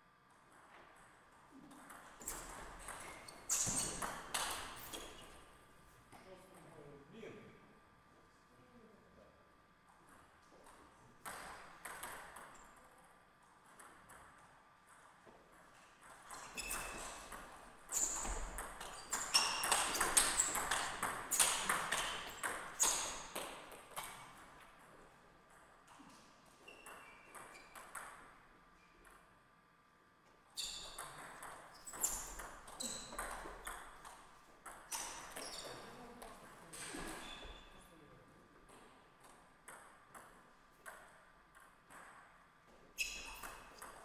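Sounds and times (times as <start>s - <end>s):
table tennis ball hits and bounces: 0.3s - 5.6s, 10.0s - 29.3s, 30.6s - 37.8s, 38.7s - 44.0s.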